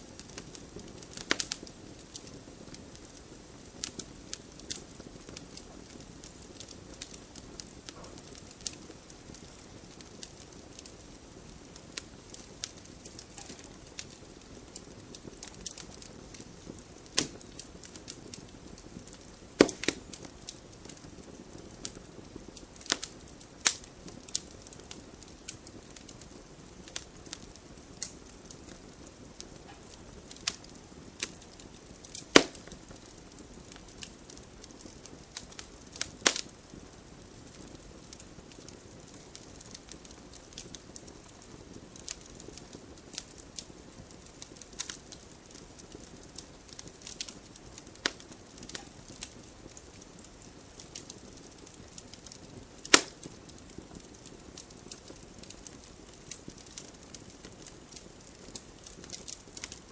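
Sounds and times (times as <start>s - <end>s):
low hiss: 0.0s - 59.9s
wood fire crackling: 0.0s - 59.9s
sharp fire pops: 0.1s - 59.9s.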